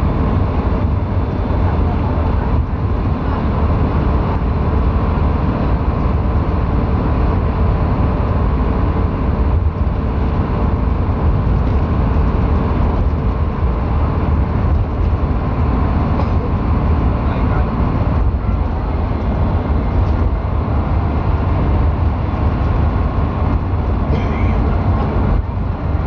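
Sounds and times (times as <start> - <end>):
engine hum: 0.0 - 26.0
road and wind noise: 0.0 - 26.0.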